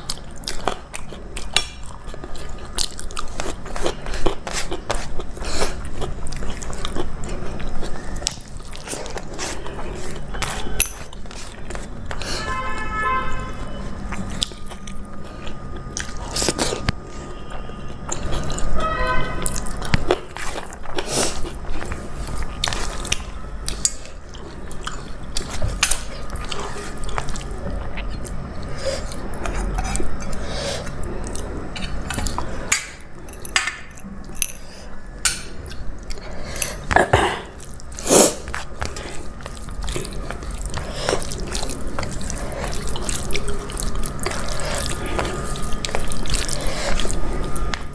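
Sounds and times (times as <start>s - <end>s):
person chewing and crunching: 0.0s - 47.9s.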